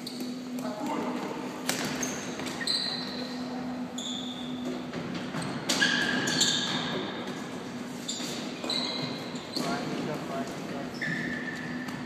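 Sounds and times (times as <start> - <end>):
shoes squeaking on court floor: 0.0 - 0.7, 1.6 - 12.0.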